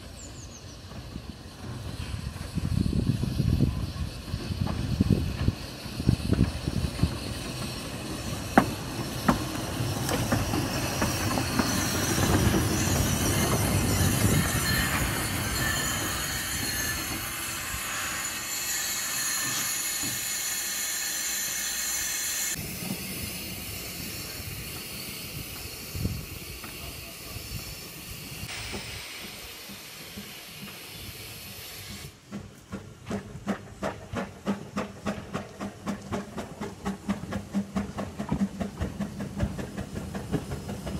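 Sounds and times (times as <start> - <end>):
steam hissing: 0.0 - 40.9
steam locomotive exhaust chuffing: 0.1 - 40.9.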